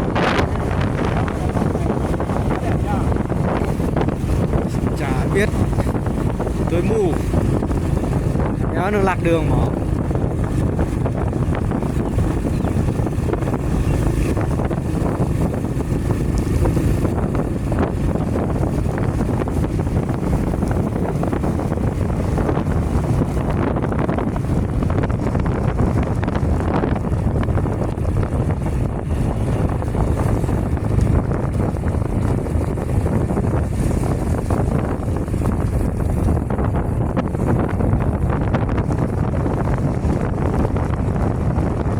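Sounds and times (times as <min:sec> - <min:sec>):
steady low rumble: 0:00.0 - 0:41.9
wind buffeting microphone: 0:00.0 - 0:41.9.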